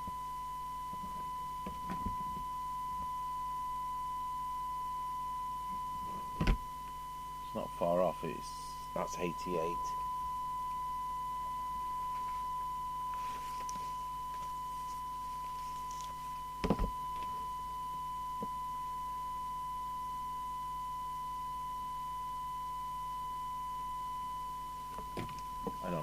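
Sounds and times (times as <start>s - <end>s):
steady test tone: 0.0s - 26.0s.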